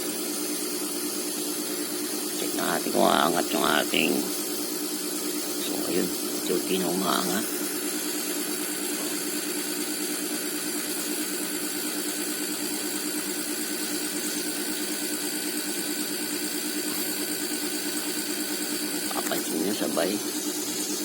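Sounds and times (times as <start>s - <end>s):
air compressor pumping: 0.0s - 21.0s.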